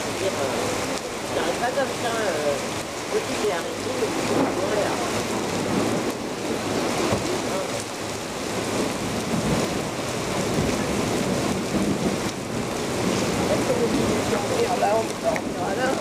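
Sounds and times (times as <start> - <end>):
heavy rain splashing into water: 0.0 - 16.0.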